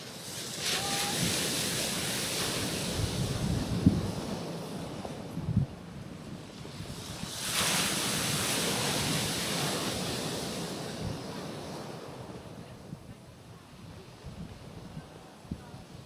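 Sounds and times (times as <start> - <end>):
wave breaking on rocky shore: 0.0 - 12.9.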